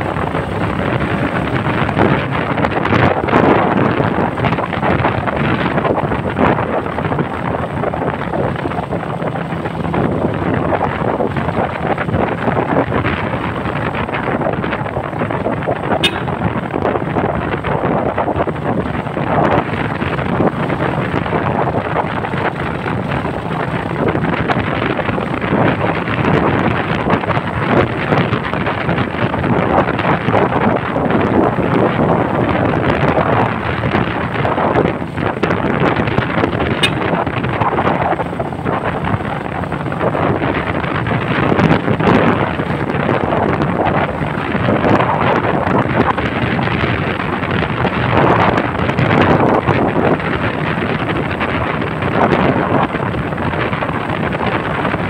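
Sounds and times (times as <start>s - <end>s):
road and engine noise: 0.0s - 55.0s
wind buffeting microphone: 0.0s - 55.0s.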